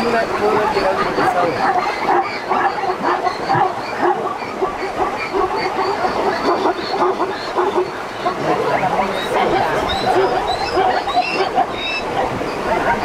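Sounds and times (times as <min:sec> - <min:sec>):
zebras barking calls: 0:00.1 - 0:13.0.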